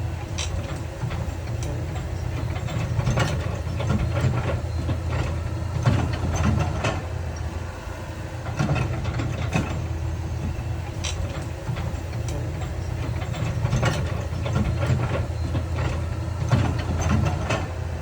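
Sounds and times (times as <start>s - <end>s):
diesel machinery droning: 0.0s - 18.0s.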